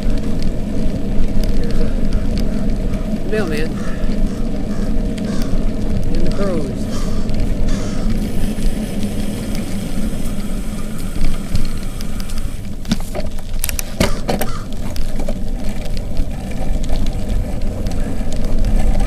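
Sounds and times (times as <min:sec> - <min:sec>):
wind and tyre rumble: 0:00.0 - 0:19.0.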